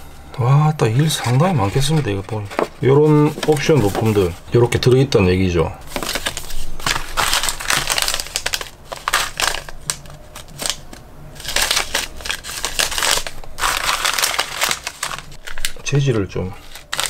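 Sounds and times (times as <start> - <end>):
packaging crinkling and rustling: 1.0 - 5.0, 5.9 - 17.0.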